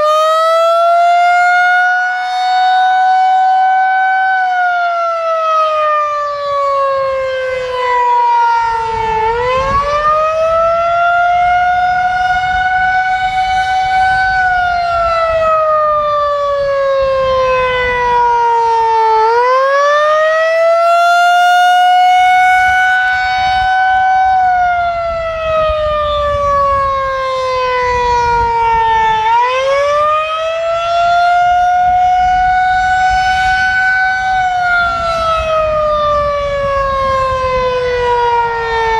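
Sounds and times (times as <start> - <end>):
wailing rotating siren: 0.0 - 38.9.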